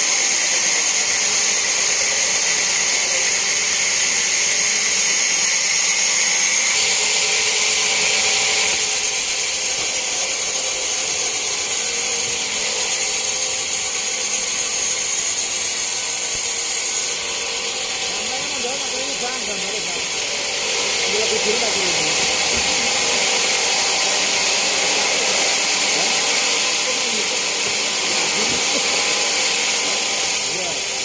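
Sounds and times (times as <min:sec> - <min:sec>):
band saw cutting through log: 0:00.0 - 0:31.0.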